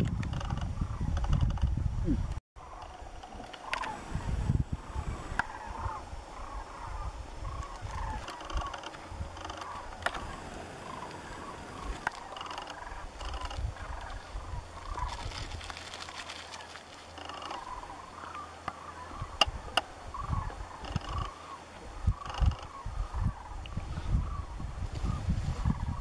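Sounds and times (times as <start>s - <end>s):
wind rumble on microphone: 0.0s - 26.0s
cranes calling: 2.6s - 26.0s.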